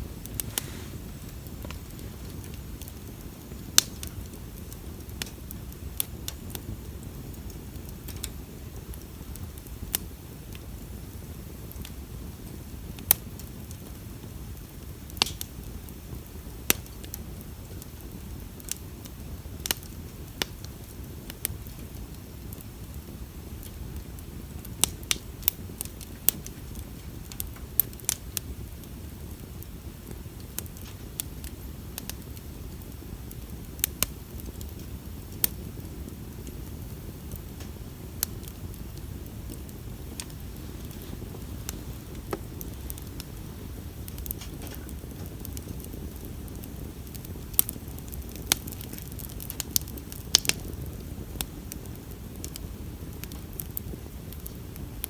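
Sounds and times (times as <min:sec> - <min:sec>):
bonfire crackling and popping: 0:00.0 - 0:55.0
low fire rumble: 0:00.0 - 0:55.0.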